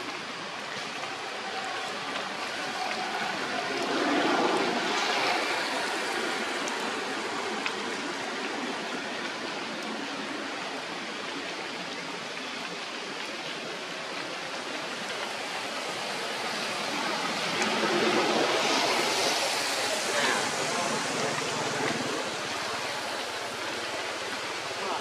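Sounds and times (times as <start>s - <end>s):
steady rushing outdoor noise: 0.0s - 25.0s.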